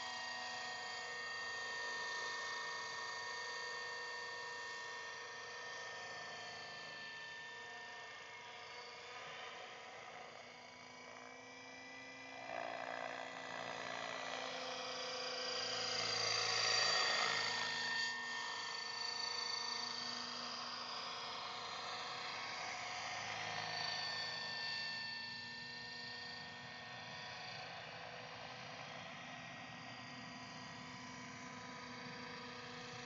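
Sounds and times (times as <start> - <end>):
radio-controlled helicopter whine: 0.0 - 33.0.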